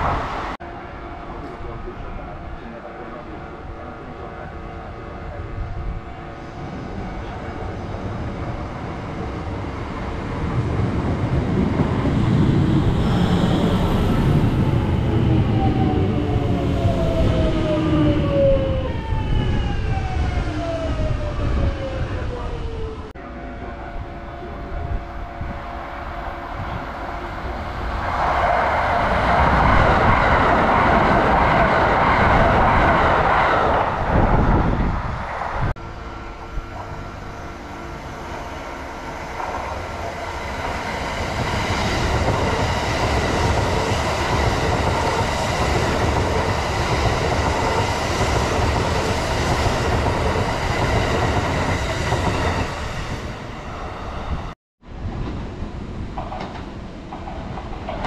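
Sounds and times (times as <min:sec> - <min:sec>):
train rail noise passing close: 0:00.0 - 0:58.0
train rushing past: 0:00.0 - 0:58.0.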